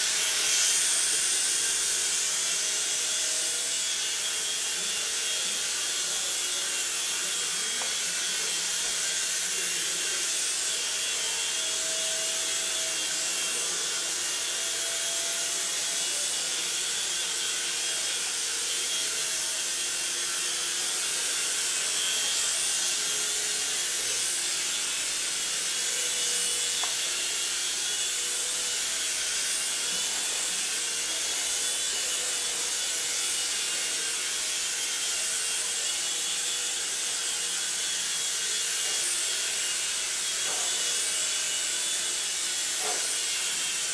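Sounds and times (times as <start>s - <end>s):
toy helicopter rotors whirring: 0.0s - 43.9s.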